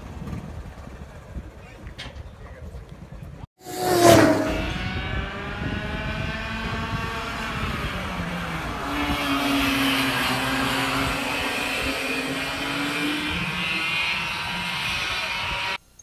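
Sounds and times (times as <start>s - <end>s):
racing kart engines: 0.0s - 15.8s.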